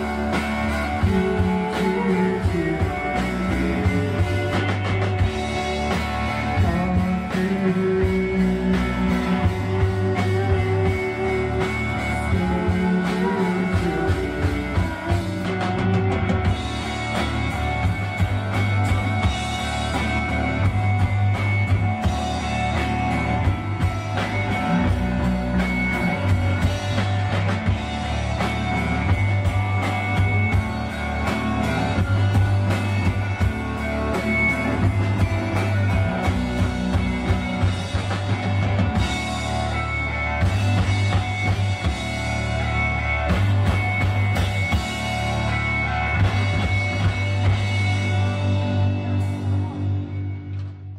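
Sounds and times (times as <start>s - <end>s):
rock band playing: 0.0s - 50.9s.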